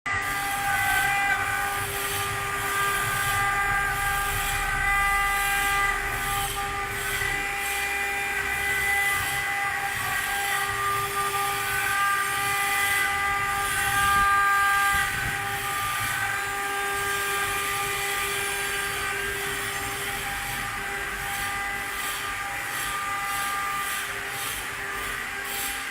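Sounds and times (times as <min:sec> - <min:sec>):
stone engraving spindle whine: 0:00.1 - 0:25.9
bit cutting stone hiss: 0:00.2 - 0:25.9.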